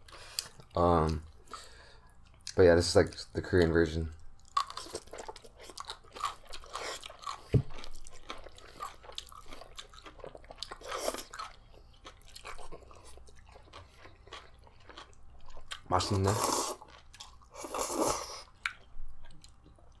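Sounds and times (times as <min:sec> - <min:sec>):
people chewing and eating: 0:00.0 - 0:20.0.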